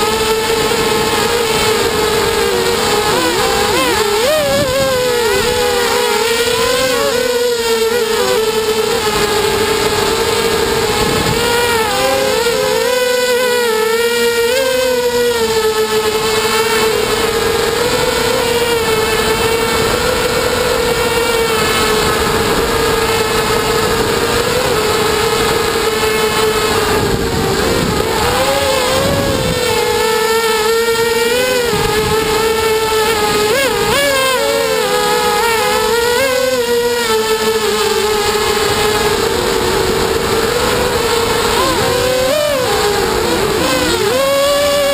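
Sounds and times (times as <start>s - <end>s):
wind rumble on microphone: 0.0s - 7.4s, 8.4s - 13.2s, 16.0s - 44.9s
drone motors whining: 0.0s - 44.9s.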